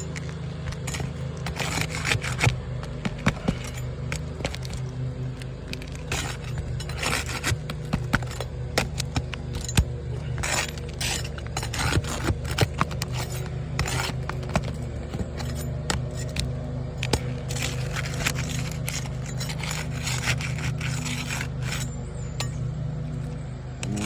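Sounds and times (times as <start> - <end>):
roof shingles scraping and cracking: 0.0 - 22.0
steady low hum: 0.0 - 24.0.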